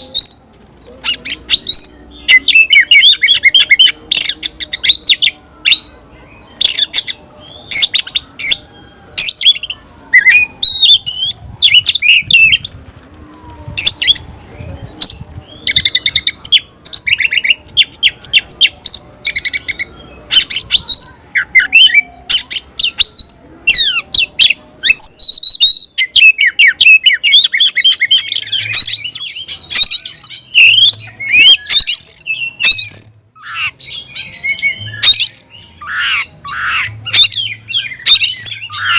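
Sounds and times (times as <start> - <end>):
magpie-robin singing: 0.0 - 12.8, 13.7 - 38.9.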